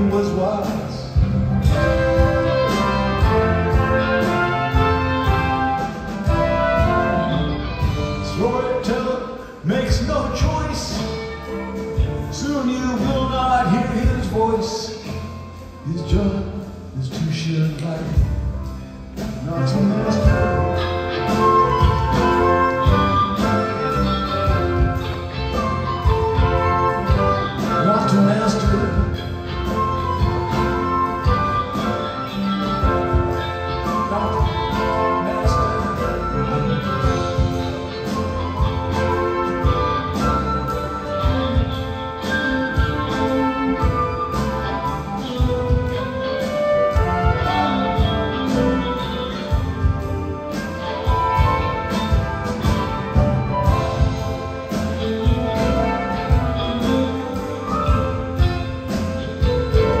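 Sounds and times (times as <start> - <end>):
rock band and orchestra playing: 0.0 - 60.0.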